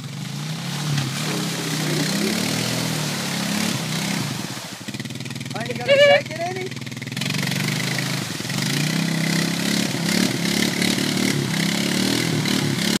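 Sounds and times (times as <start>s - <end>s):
atv engine revving under load: 0.0s - 13.0s
churning mud and water: 0.0s - 13.0s.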